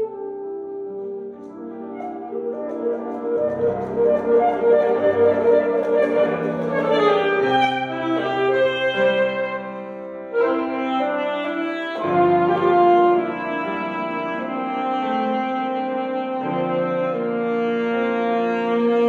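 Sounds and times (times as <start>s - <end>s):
piano playing: 0.0s - 19.0s.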